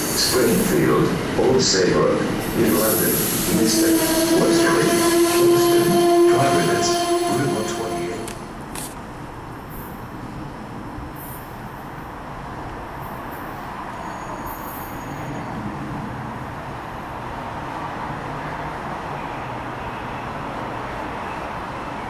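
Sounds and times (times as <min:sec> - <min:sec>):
electric train approaching: 0:00.0 - 0:18.2.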